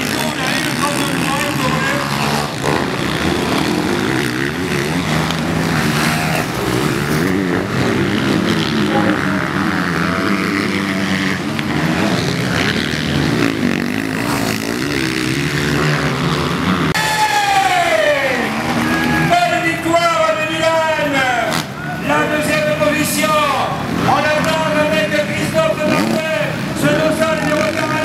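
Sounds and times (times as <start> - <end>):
motocross engines revving: 0.0 - 28.0.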